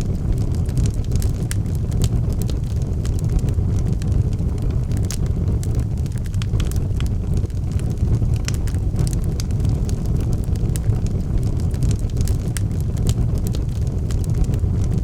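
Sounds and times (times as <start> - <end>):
flames rumbling: 0.0 - 15.0
logs crackling and popping: 0.0 - 15.0.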